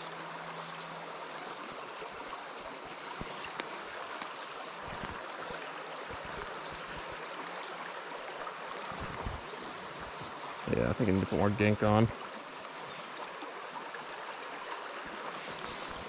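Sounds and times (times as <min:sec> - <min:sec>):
stream flowing over gravel: 0:00.0 - 0:16.0.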